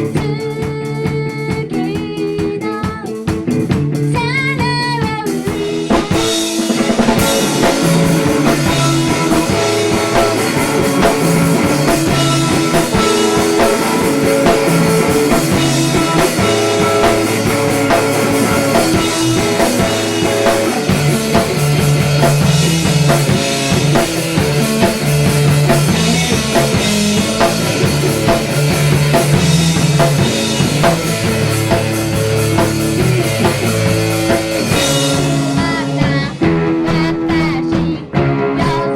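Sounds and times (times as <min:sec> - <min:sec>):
indie pop band playing live: 0:00.0 - 0:38.9.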